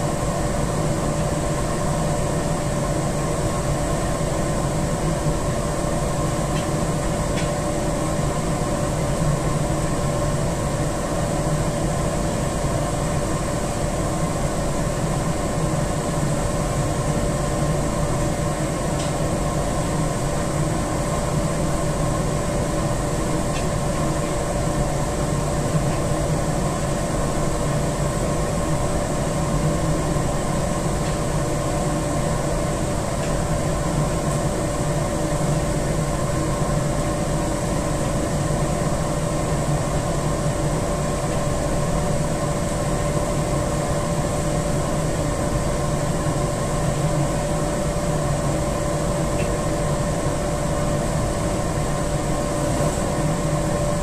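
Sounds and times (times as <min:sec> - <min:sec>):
machinery droning and humming: 0:00.0 - 0:54.0.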